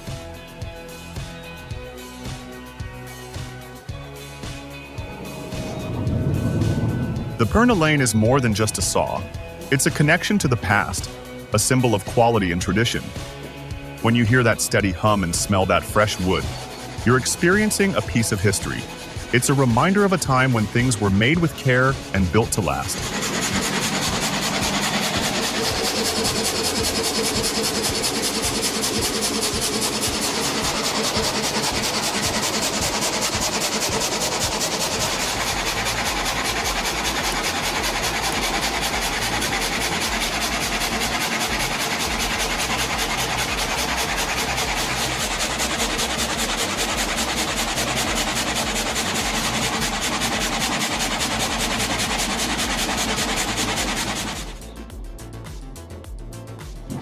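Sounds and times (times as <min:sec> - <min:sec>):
power saw cutting wood: 0:01.1 - 0:54.8.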